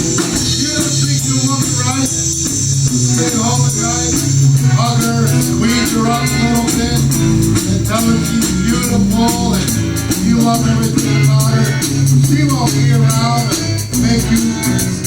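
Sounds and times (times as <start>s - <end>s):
electric blues band playing: 0.0s - 15.0s.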